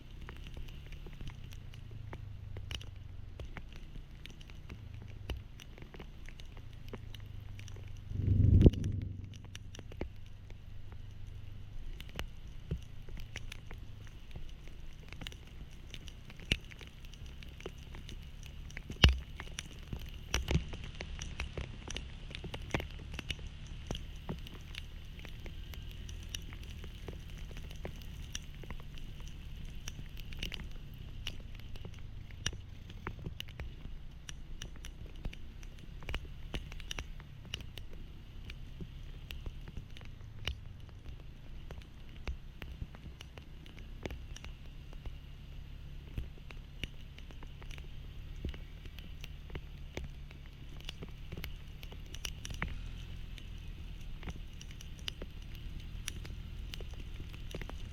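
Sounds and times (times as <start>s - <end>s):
low steady hum: 0.0s - 57.9s
raindrops pattering: 0.0s - 57.9s.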